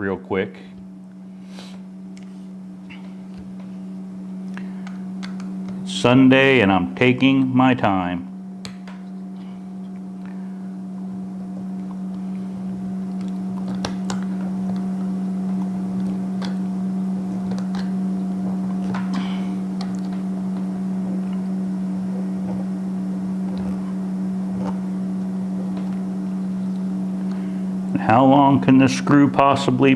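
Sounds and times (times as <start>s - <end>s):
low machine hum: 0.0s - 29.9s.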